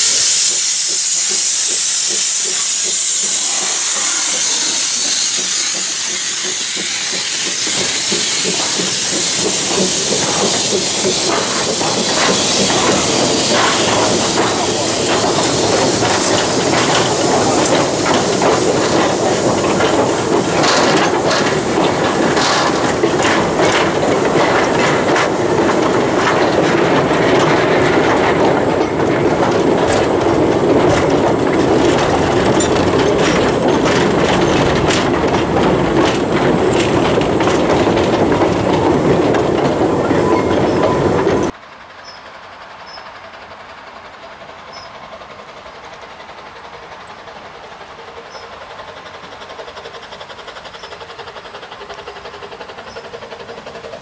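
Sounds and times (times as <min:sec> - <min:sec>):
wagons rattling over rails: 0:00.0 - 0:54.0
wheels clanking over rail joints: 0:00.0 - 0:54.0.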